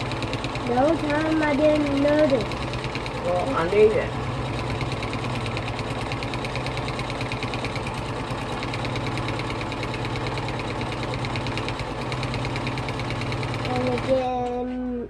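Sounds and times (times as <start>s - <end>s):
sewing machine needle rattle: 0.0s - 14.6s
sewing machine motor hum: 0.0s - 14.8s.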